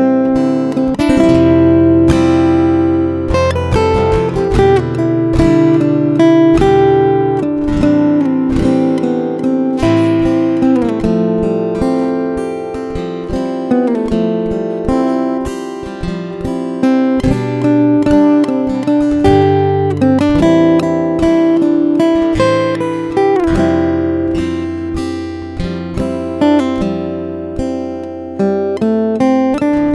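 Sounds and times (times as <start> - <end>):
acoustic guitar playing: 0.0 - 29.9.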